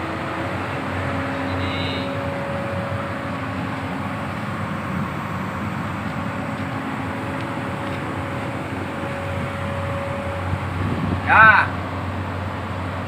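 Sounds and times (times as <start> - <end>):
excavator diesel engine idling: 0.0 - 13.0.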